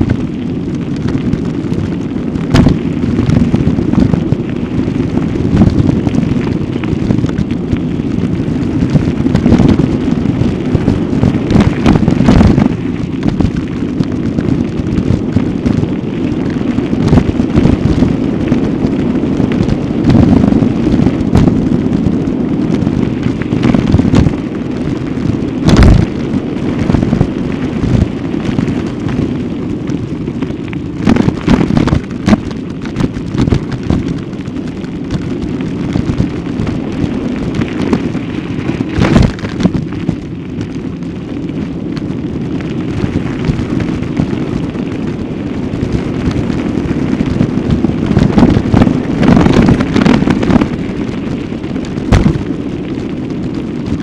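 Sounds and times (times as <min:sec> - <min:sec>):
gravel crackling under wheels: 0:00.0 - 0:54.0
wind buffeting microphone: 0:00.0 - 0:54.0.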